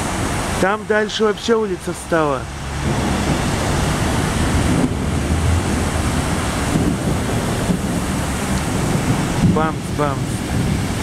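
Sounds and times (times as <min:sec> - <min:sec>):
tyres splashing through water: 0:00.0 - 0:11.0
wind buffeting microphone: 0:00.0 - 0:11.0.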